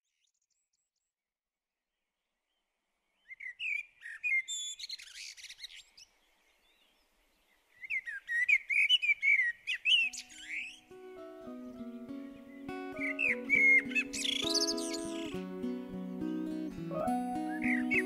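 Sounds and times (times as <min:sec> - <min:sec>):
songbirds warbling chirps: 0:02.4 - 0:18.0.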